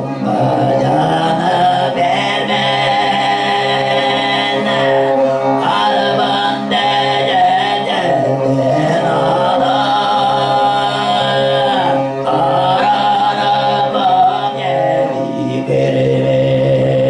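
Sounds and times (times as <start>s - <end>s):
man throat singing: 0.0s - 17.0s.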